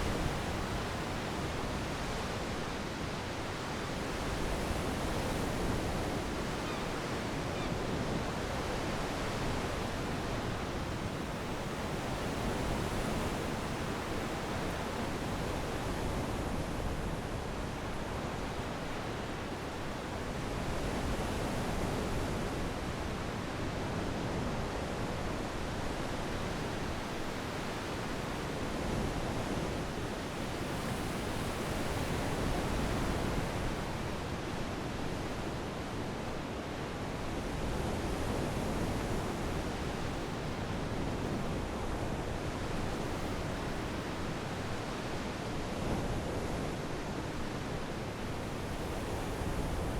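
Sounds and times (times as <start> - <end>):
wind: 0.0 - 49.9.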